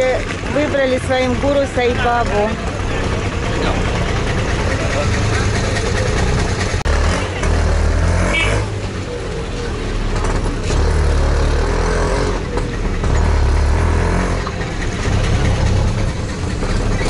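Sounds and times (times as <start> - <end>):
auto-rickshaw engine running: 0.0 - 17.0
road and wind noise: 0.0 - 17.0.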